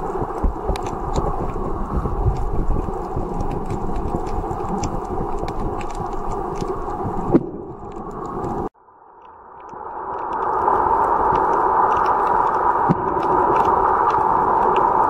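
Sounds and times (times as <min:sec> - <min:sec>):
underwater rumbling wash: 0:00.0 - 0:08.8, 0:09.4 - 0:15.0
sharp underwater clicks: 0:00.0 - 0:15.0.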